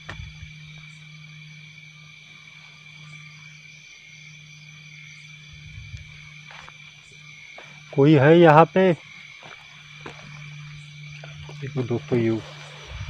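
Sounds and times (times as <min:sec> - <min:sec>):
insects and frogs chorus: 0:00.0 - 0:13.0
low continuous drone: 0:00.0 - 0:13.0.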